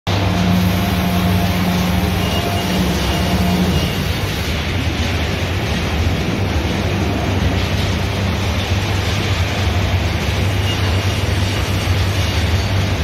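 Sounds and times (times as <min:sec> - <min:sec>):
workshop machinery humming: 0:00.1 - 0:13.0.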